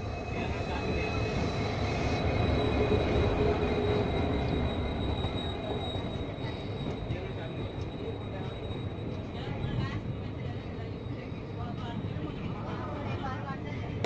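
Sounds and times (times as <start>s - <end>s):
train wheels rumbling and clattering: 0.0s - 14.0s.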